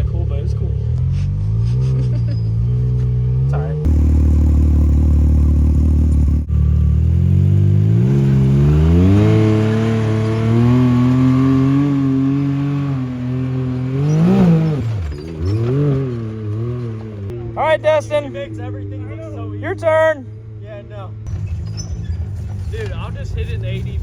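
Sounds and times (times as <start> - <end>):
engine revving: 0.0 - 21.5.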